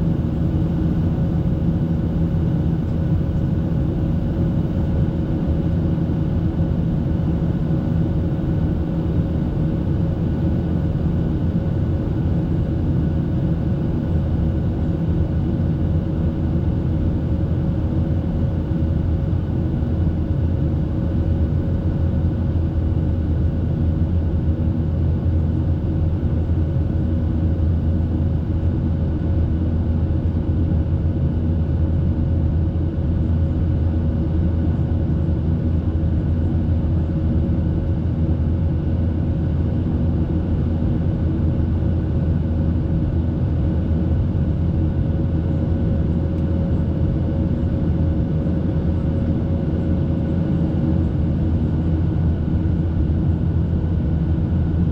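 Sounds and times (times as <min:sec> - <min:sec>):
aircraft cabin engine drone: 0:00.0 - 0:54.9.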